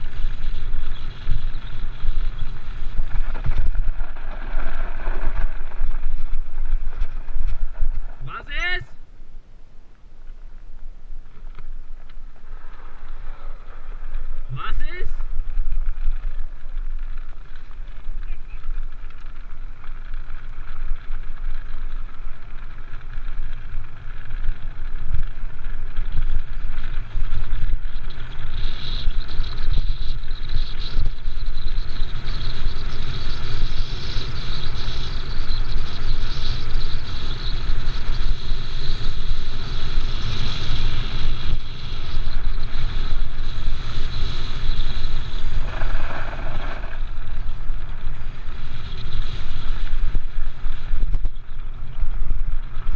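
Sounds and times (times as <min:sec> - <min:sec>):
wheels crunching on gravel: 0:00.0 - 0:08.2, 0:10.2 - 0:52.9
wind: 0:00.0 - 0:52.9.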